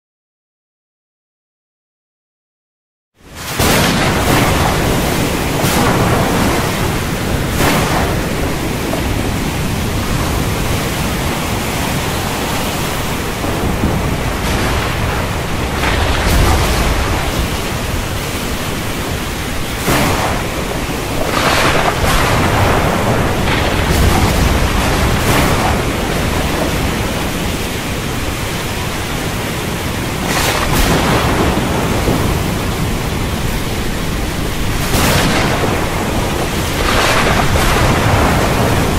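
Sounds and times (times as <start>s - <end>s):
rain hissing: 3.2s - 38.9s
thunder rumbling and cracking: 3.2s - 38.9s.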